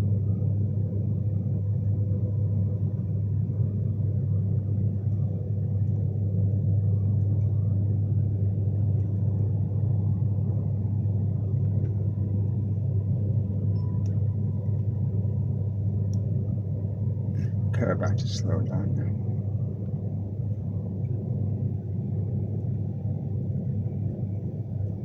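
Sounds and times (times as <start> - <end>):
faint steady hum: 0.0 - 25.0
train rumble inside coach: 0.0 - 25.0.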